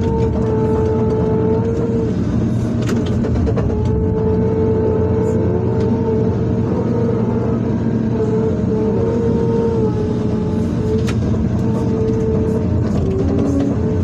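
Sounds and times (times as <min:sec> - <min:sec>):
excavator engine running: 0:00.0 - 0:14.0
high whine: 0:00.0 - 0:14.0.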